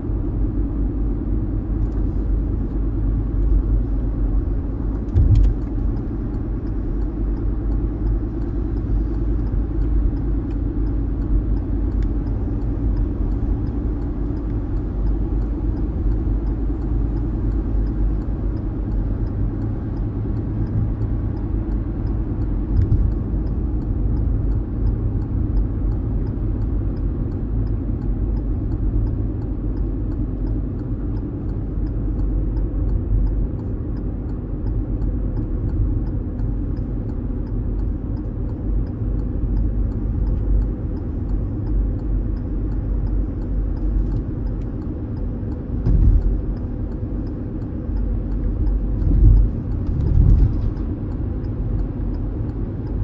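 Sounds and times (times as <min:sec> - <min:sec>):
car driving on highway: 0:00.0 - 0:53.0.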